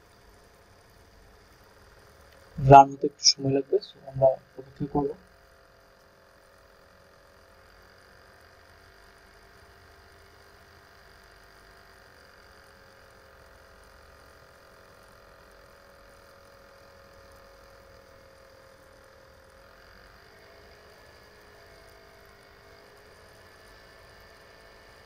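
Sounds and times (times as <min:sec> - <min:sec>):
background hum and hiss: 0:00.0 - 0:25.0.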